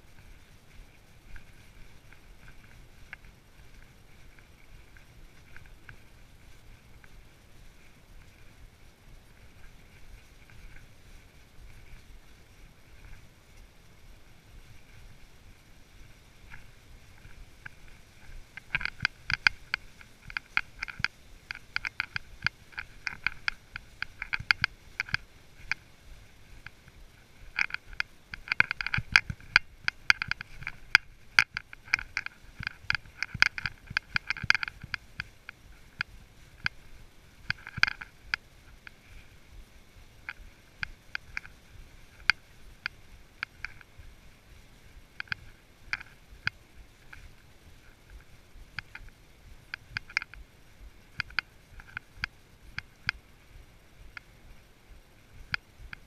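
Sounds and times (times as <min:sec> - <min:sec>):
horse hooves crunching leaves: 0:00.0 - 0:56.0.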